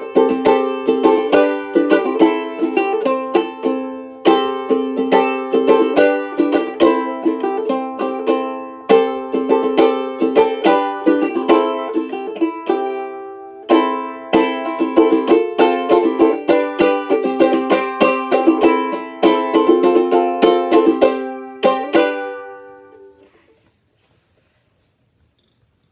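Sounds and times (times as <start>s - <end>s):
banjolele plucked tune: 0.0s - 23.3s.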